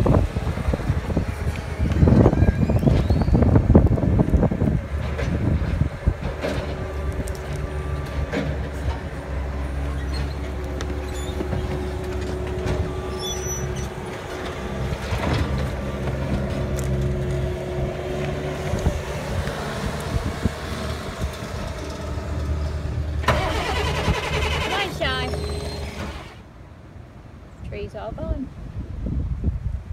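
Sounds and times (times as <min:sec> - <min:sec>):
stump grinder engine running: 0:00.1 - 0:26.4.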